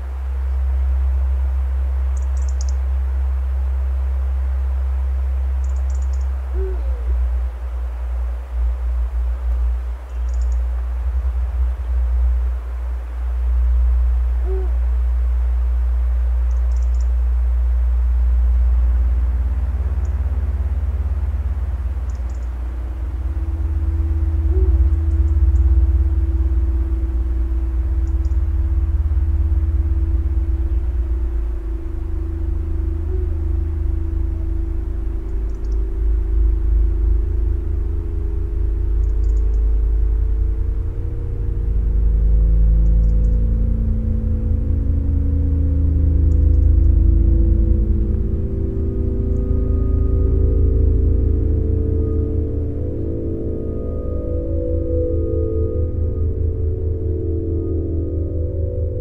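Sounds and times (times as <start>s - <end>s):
steady hiss: 0.0s - 55.1s
deep bass drone: 0.0s - 59.0s.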